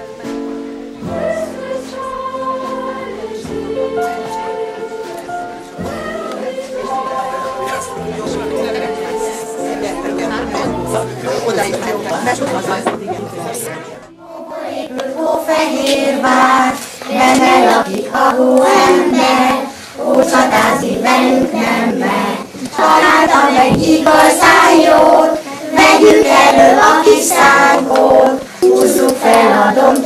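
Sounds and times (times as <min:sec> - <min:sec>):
children singing: 0:00.0 - 0:30.0.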